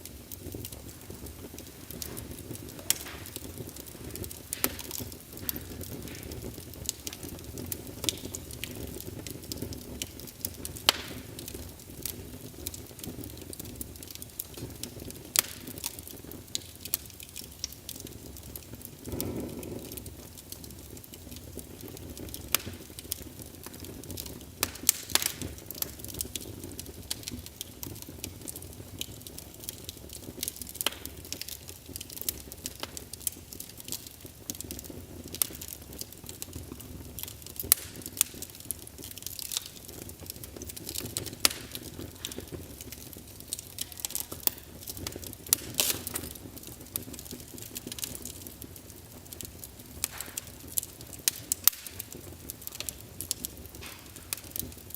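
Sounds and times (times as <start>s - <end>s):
low rumble of burning logs: 0.0s - 54.9s
sharp pops of burning wood: 0.0s - 54.9s
wood fire crackling: 0.0s - 54.9s.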